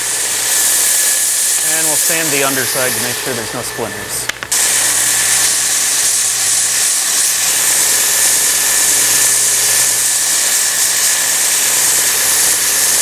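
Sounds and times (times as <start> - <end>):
belt sander hiss and whine: 0.0 - 13.0.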